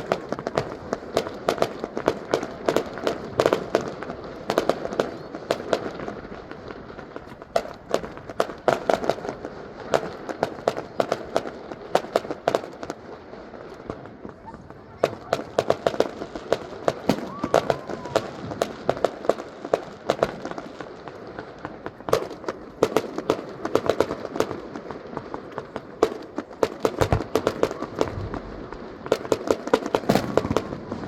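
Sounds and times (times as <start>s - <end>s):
fireworks bangs and crackling pops: 0.0s - 31.0s.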